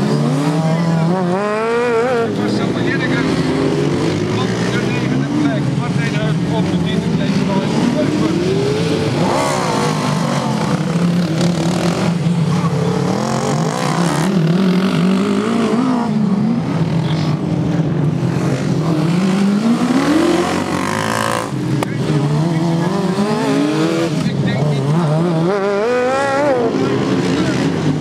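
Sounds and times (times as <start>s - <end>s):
lawn mower engines revving: 0.0s - 28.0s.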